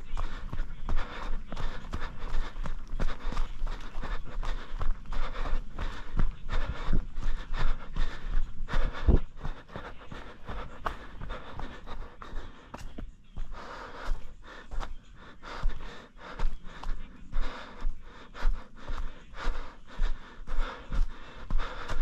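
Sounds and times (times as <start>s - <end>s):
person panting: 0.0s - 22.0s
running footfalls on trail: 0.0s - 22.0s.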